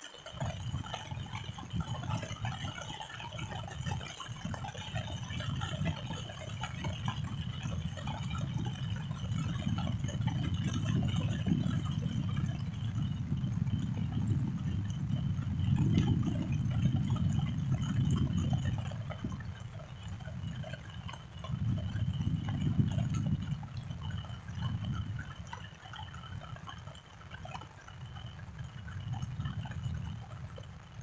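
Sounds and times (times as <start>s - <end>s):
rain drops and splashes: 0.0s - 31.0s
steady low rumble: 0.4s - 31.0s.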